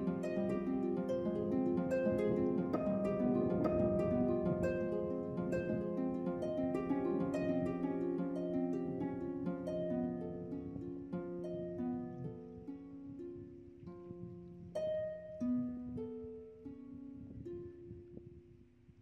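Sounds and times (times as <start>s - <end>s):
plucked string melody: 0.0s - 18.4s.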